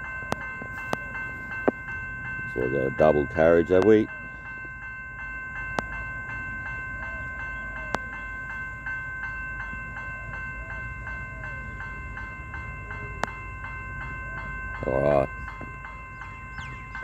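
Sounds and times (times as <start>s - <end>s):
level crossing warning bell ringing: 0.0s - 17.0s
railcar engine idling: 0.0s - 17.0s.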